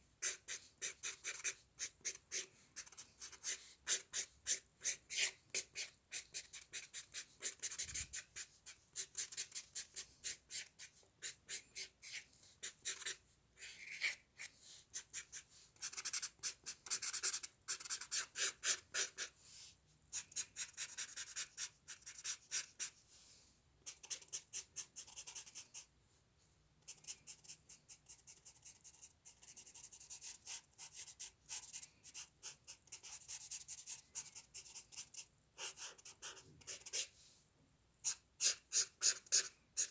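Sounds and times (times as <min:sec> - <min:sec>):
scratchy drawing strokes on paper: 0:00.2 - 0:25.9, 0:26.9 - 0:37.4, 0:38.0 - 0:39.9.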